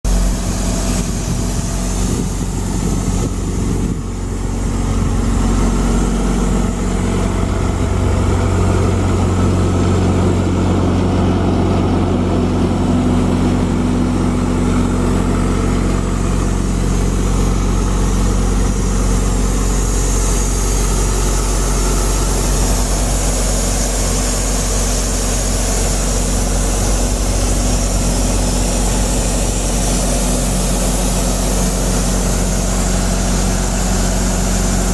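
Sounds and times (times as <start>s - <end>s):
diesel air compressor running: 0.0s - 34.9s.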